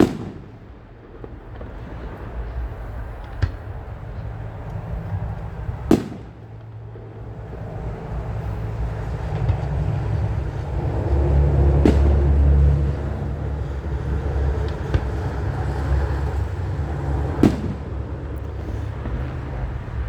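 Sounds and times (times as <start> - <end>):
firework bangs: 0.0 - 20.0
low rumble: 1.5 - 20.0.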